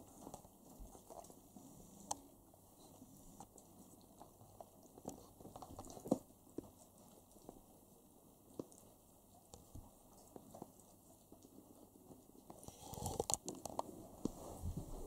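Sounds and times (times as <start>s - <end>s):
dog chewing with small clicks: 0.0s - 7.7s, 8.4s - 14.0s.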